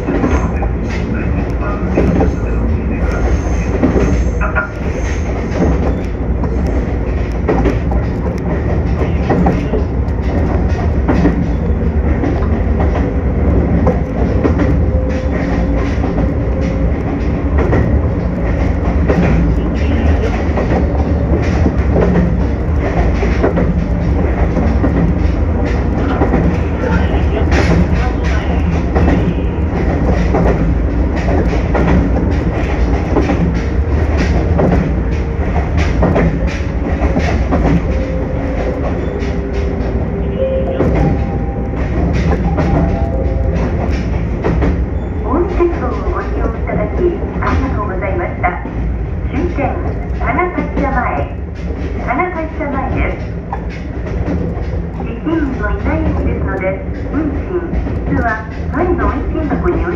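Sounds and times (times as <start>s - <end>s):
train wheels rumbling on rail: 0.0s - 59.9s
clicks over rail joints: 3.1s - 59.9s.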